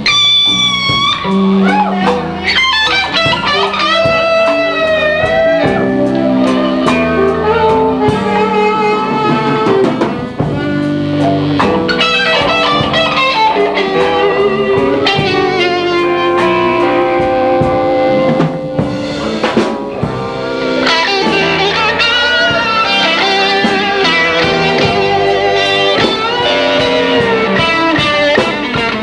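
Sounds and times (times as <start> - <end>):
blues band playing live: 0.0 - 29.0
drums: 0.0 - 29.0
electric guitar: 0.0 - 29.0.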